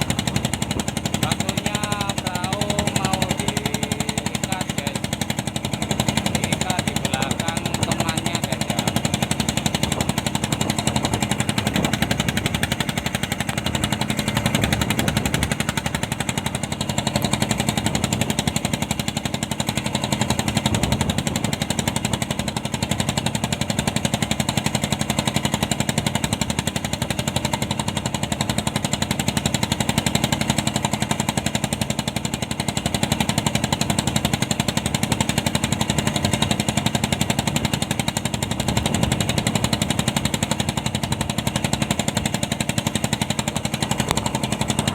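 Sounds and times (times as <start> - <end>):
diesel engine knocking: 0.0 - 44.9.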